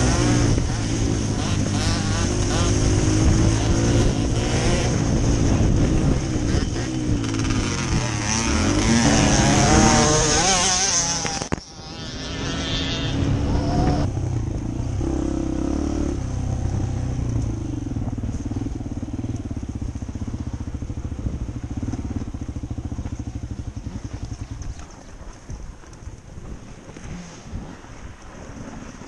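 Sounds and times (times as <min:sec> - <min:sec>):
dirt bike engine revving: 0:00.0 - 0:24.8.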